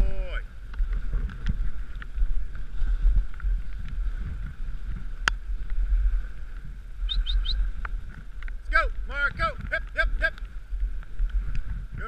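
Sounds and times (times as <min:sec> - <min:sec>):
sled runners on snow: 0:00.0 - 0:12.0.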